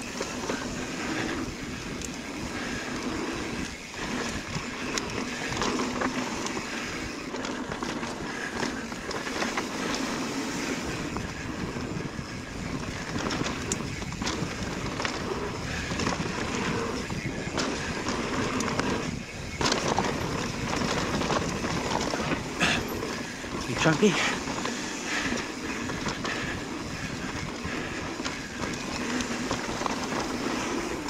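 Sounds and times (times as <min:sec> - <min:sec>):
bike clattering over bumps: 0:00.0 - 0:31.0
tyres rolling over dirt and stones: 0:00.0 - 0:31.0.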